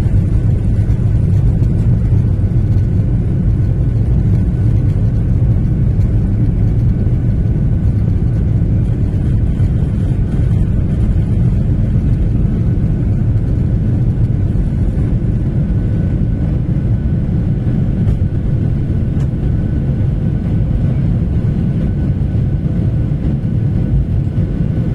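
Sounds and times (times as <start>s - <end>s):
jet engines rumbling: 0.0s - 24.9s.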